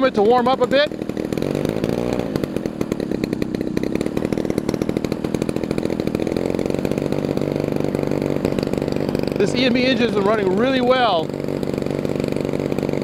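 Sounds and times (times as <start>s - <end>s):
model airplane engine idling: 0.0s - 13.0s.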